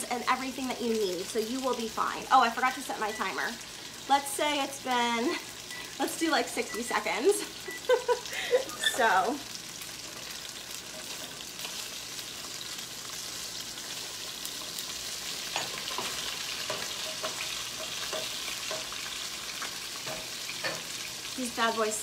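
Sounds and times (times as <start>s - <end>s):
chicken sizzling in a skillet: 0.0s - 22.0s.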